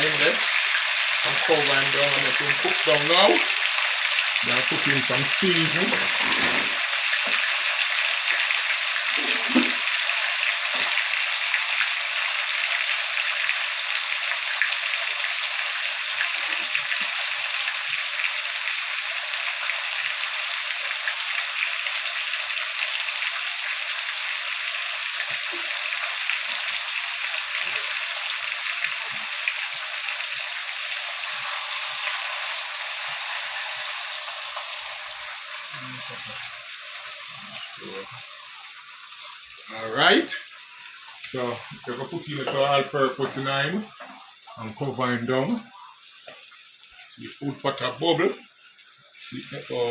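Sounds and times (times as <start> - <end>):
stew sizzling and bubbling: 0.0 - 49.9.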